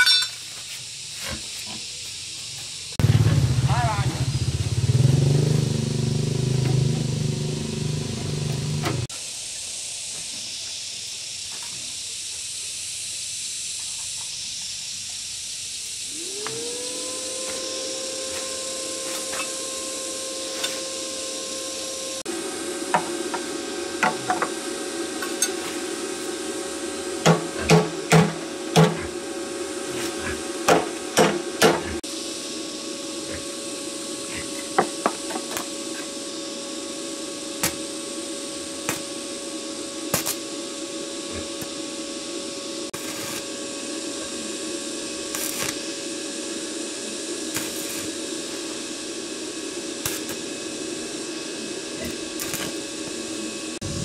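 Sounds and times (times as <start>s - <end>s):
steady machine hum: 2.4s - 10.1s, 14.8s - 54.0s.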